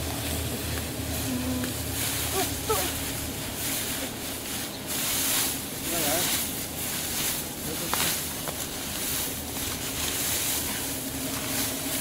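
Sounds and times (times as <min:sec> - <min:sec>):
rustling of cut grass: 0:00.0 - 0:12.0.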